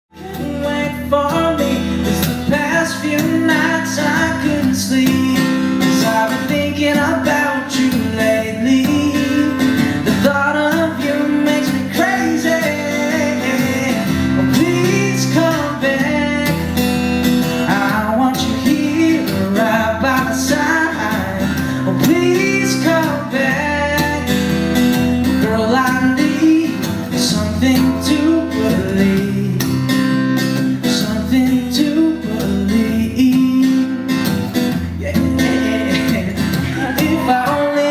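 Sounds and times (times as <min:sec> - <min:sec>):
man singing: 0:00.1 - 0:30.0, 0:30.6 - 0:37.9
strummed acoustic guitar: 0:00.1 - 0:37.9.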